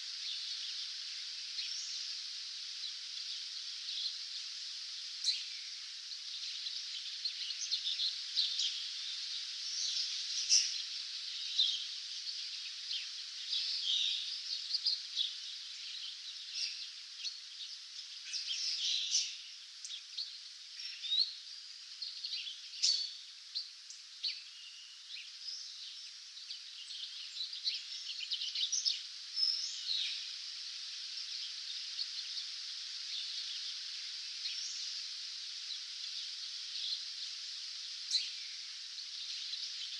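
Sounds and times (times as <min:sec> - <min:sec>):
songbirds chirping: 0:00.0 - 0:39.9
steady hiss: 0:00.0 - 0:39.9.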